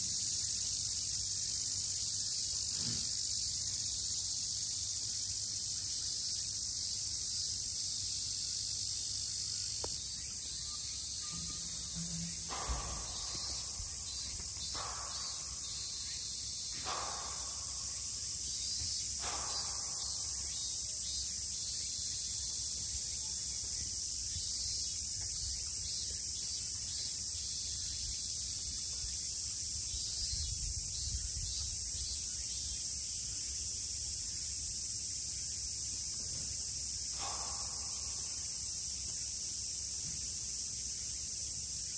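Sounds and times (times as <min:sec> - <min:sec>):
insect chorus drone: 0:00.0 - 0:41.9.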